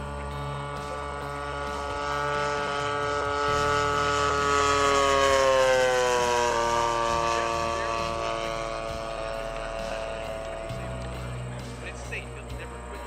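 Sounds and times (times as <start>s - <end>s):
model airplane motor humming: 0.0s - 13.0s.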